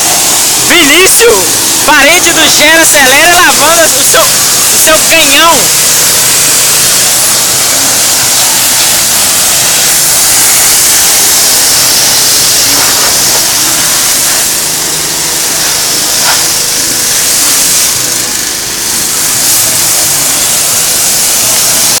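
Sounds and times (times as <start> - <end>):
pressure washer water hissing: 0.0 - 22.0.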